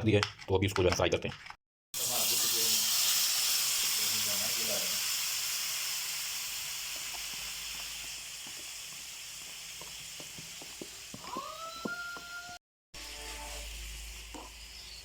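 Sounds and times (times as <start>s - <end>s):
chicken sizzling in hot oil: 2.0s - 15.0s.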